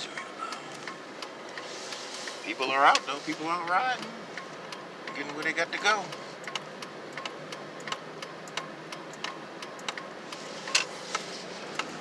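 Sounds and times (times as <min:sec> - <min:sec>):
turn-signal clicker ticking: 0:00.0 - 0:10.9
truck low hum: 0:00.0 - 0:12.0.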